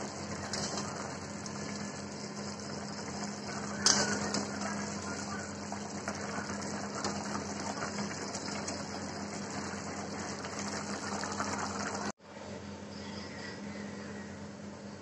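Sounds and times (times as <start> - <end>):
curry simmering and bubbling: 0.0 - 12.2.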